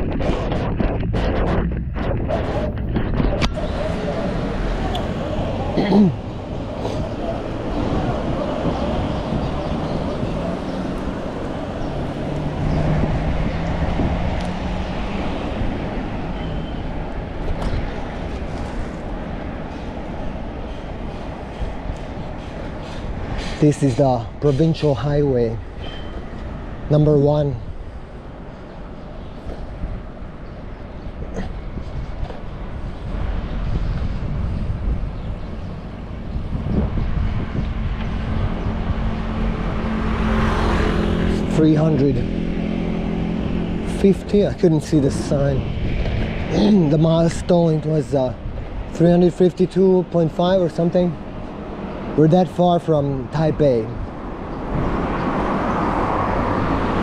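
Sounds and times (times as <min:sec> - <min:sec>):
vehicle engine hum: 0:00.0 - 0:25.0, 0:25.6 - 0:57.0
wind rumbling on microphone: 0:00.0 - 0:49.2, 0:50.0 - 0:57.0
bicycle road noise: 0:00.0 - 0:57.0
motor traffic passing: 0:00.0 - 0:57.0.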